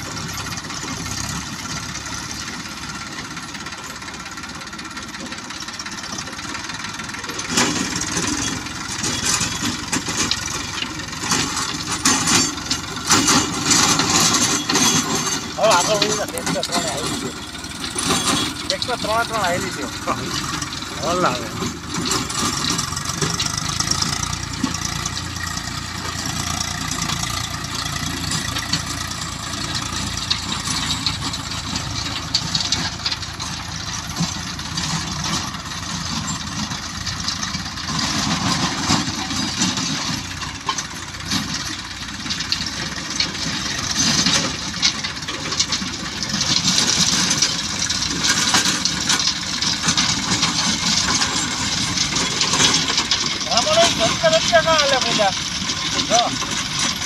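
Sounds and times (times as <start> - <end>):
tilling blades clattering: 0.0 - 57.0
tractor diesel engines under load: 0.0 - 57.0.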